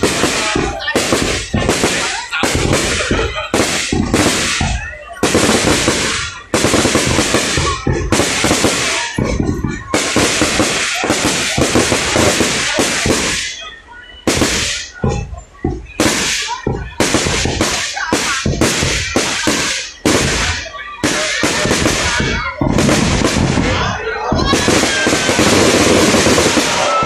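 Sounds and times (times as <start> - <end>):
fireworks booming and crackling: 0.0 - 27.0.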